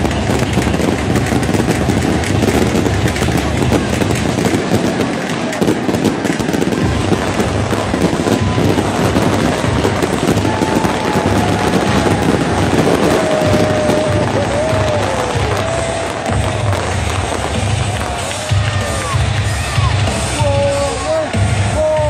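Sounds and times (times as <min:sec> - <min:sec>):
pyrotechnics crackling and banging: 0:00.0 - 0:20.4
stadium crowd roaring: 0:00.0 - 0:22.0.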